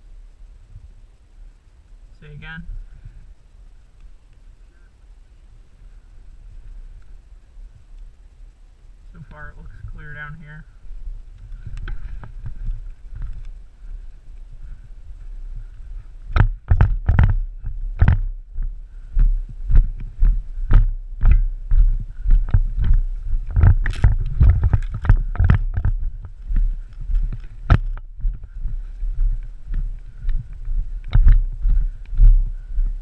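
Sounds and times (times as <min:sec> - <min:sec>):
heavy footsteps outdoors: 0:01.9 - 0:33.0.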